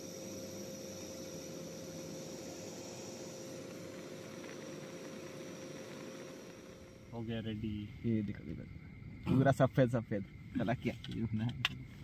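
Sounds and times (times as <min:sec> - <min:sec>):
gas stove burning with hiss: 0:00.0 - 0:12.0.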